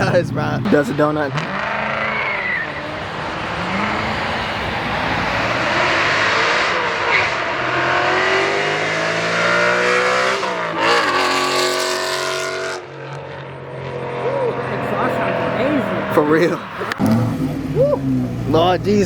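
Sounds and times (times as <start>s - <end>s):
car engine revving high: 0.0s - 19.0s
tires spinning and squealing: 0.6s - 13.2s, 13.8s - 19.0s.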